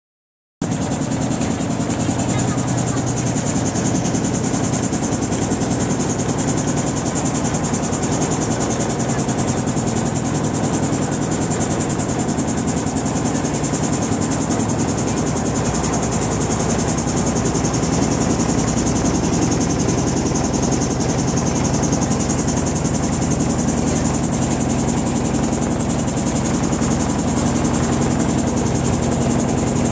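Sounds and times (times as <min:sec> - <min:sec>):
motorboat engine drone: 0:00.6 - 0:29.9
high mechanical whine: 0:00.7 - 0:29.9.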